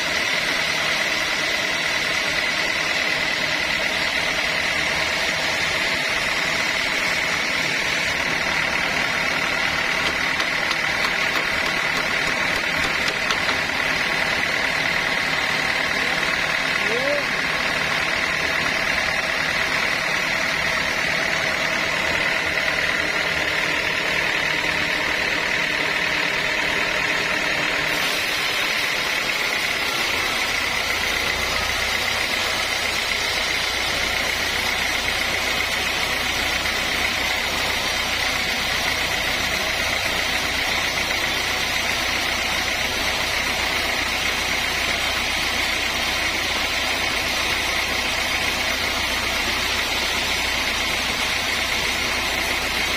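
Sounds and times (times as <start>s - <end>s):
sawmill machinery whining: 0.0s - 52.9s.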